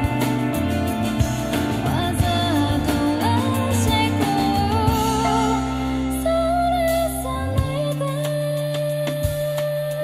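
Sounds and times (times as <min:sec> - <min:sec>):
song with guitar from car speakers: 0:00.0 - 0:10.0.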